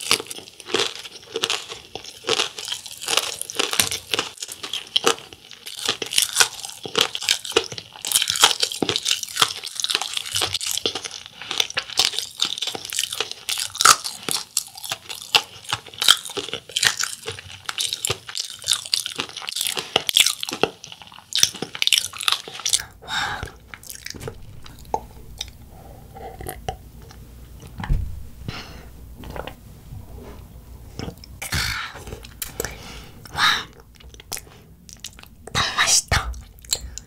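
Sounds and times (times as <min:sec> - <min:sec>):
crunching and chewing food: 0:00.0 - 0:27.8, 0:29.2 - 0:29.6, 0:30.9 - 0:35.6.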